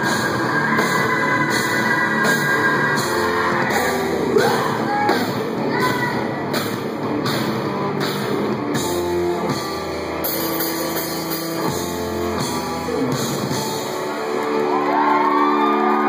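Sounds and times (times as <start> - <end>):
drum kit: 0.0 - 15.4
electric guitars: 0.0 - 16.0.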